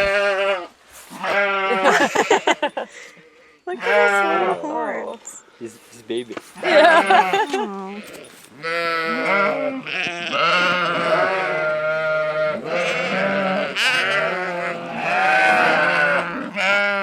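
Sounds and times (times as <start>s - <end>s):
sheep bleating: 0.0s - 2.9s, 3.7s - 5.2s, 6.5s - 17.0s.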